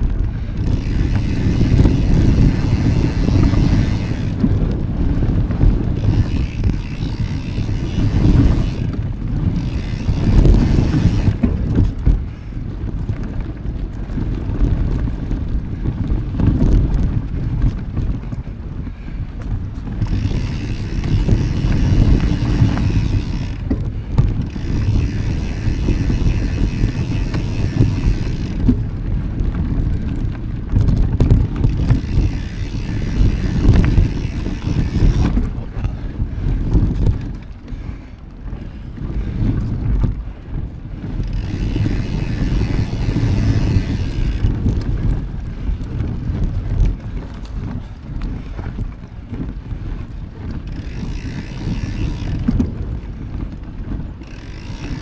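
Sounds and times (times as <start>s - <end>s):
bike knocks and rattles: 0.0s - 55.0s
wind buffeting microphone: 0.0s - 55.0s.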